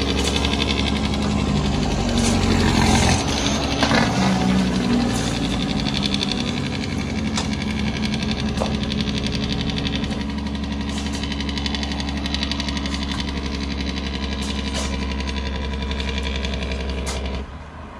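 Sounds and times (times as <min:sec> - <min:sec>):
diesel truck engine running hard: 0:00.0 - 0:17.9.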